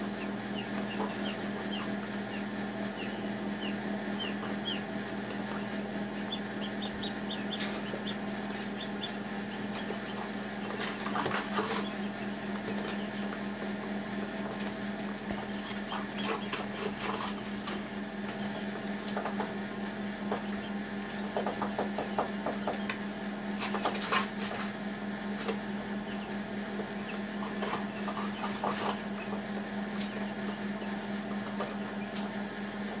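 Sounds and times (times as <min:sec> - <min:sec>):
low fan hum: 0:00.0 - 0:33.0.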